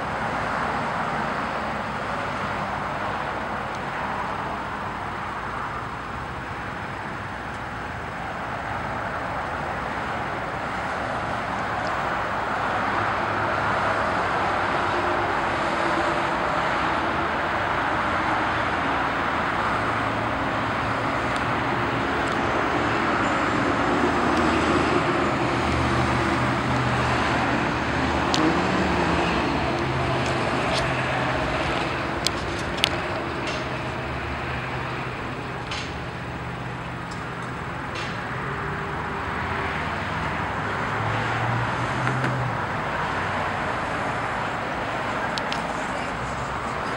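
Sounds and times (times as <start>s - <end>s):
car road noise: 0.0s - 46.9s.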